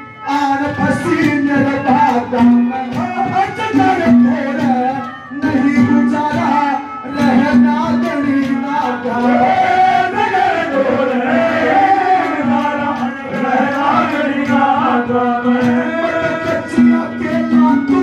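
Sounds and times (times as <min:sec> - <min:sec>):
held instrumental tones: 0:00.0 - 0:18.0
regular drum beat: 0:00.3 - 0:18.0.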